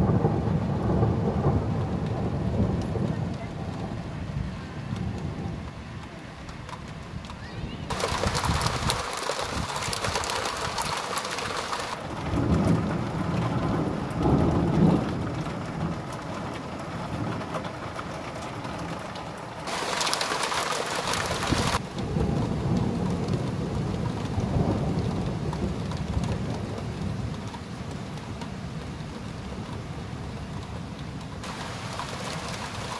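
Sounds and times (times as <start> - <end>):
thunder rumbling: 0.0 - 5.8, 7.8 - 30.4, 31.4 - 32.9
rain falling: 0.0 - 32.9.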